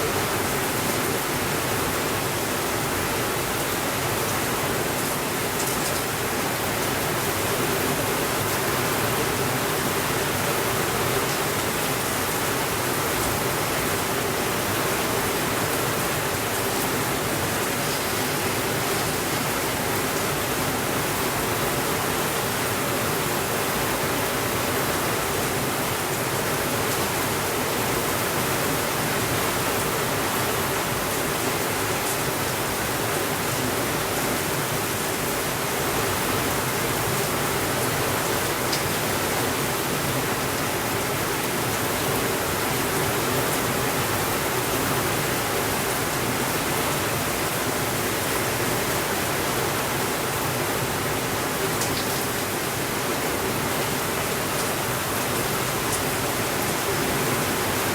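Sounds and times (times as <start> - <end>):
steady rainfall: 0.0 - 57.9.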